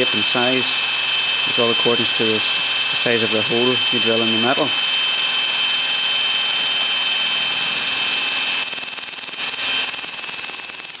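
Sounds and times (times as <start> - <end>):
cordless drill whine: 0.0 - 11.0.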